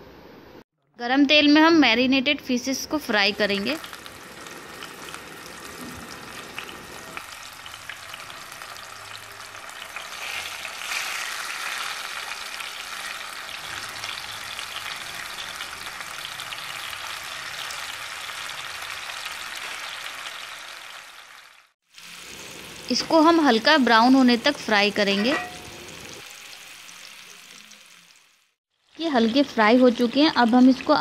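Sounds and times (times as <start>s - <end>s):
fish frying in hot oil: 3.2s - 31.0s.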